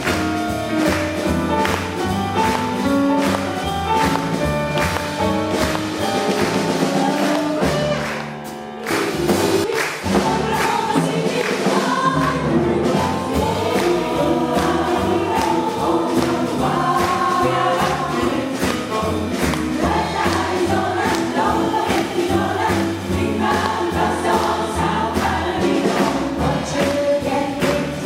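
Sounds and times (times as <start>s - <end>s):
jazz band playing: 0.0s - 28.0s
jazz chorus singing: 0.0s - 28.0s.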